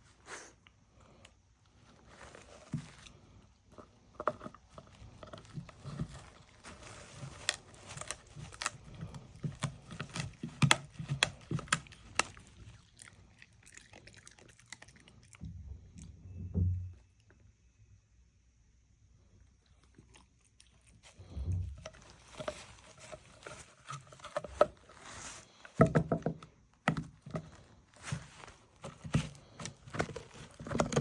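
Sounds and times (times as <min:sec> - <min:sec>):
dog chewing and crunching food: 0:01.8 - 0:16.2, 0:19.6 - 0:26.1, 0:26.9 - 0:31.0.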